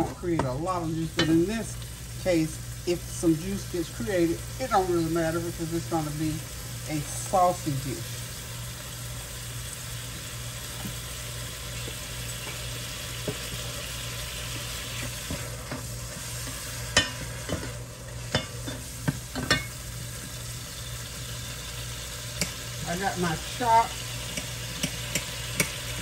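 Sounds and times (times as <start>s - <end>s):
meat sizzling in hot oil: 0.0s - 26.0s.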